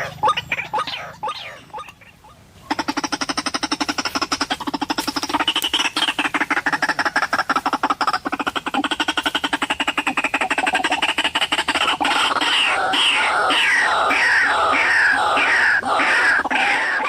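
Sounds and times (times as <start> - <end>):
bird pulsing croak: 0.0 - 17.0.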